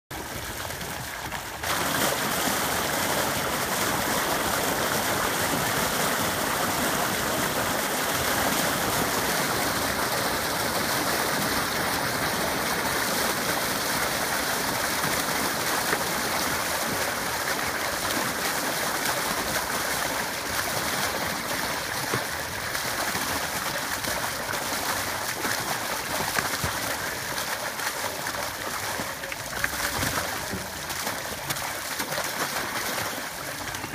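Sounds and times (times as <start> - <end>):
water gushing from a hose: 0.1 - 33.9
water splashing onto a lake: 0.1 - 33.9.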